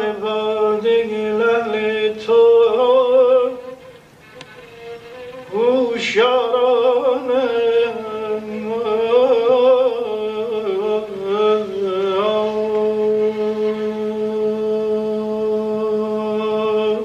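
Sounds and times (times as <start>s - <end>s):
man singing: 0.0s - 4.0s, 4.8s - 17.0s
violin accompaniment: 1.4s - 15.4s.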